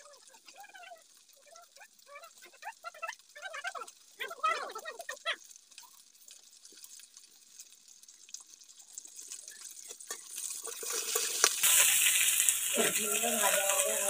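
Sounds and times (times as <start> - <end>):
small clicks and drips: 0.0 - 14.0
vegetables sizzling in wok: 0.0 - 14.0.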